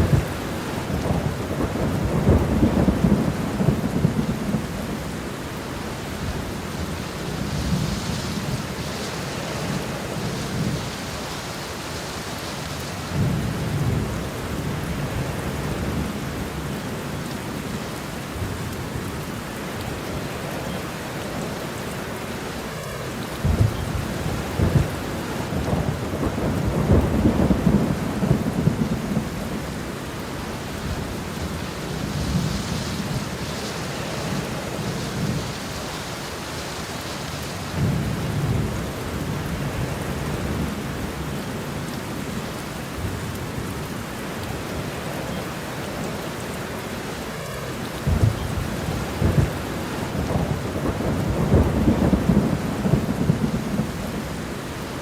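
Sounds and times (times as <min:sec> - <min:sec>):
low rolling thunder: 0:00.0 - 0:19.2, 0:22.5 - 0:43.9, 0:47.6 - 0:55.0
steady rain: 0:00.0 - 0:55.0.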